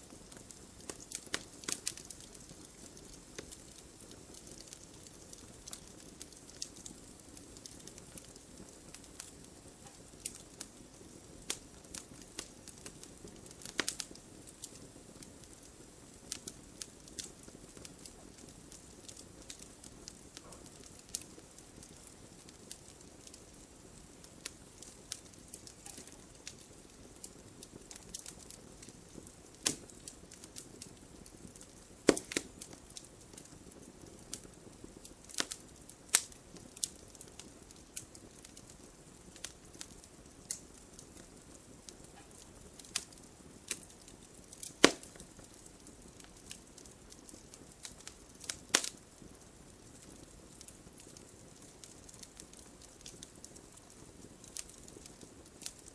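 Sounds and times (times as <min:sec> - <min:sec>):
fire hissing: 0:00.0 - 0:55.9
wood fire crackling and popping: 0:00.0 - 0:55.9.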